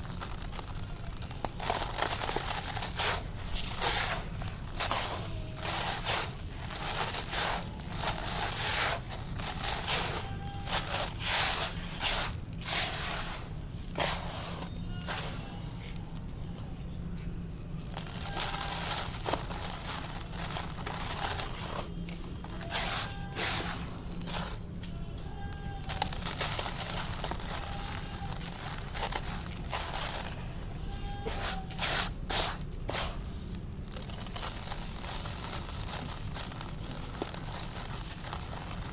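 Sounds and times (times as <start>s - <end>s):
concrete crumbling and crunching: 0.0s - 16.6s, 17.7s - 38.9s.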